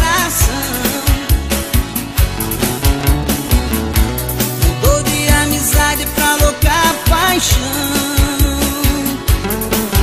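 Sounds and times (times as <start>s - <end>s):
song with steady beat: 0.0s - 10.0s.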